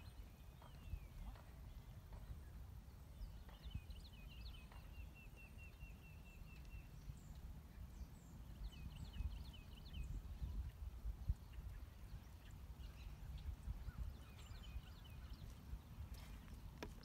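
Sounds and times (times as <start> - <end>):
songbird singing: 0.0 - 17.0
wind rumble on microphone: 0.0 - 17.0.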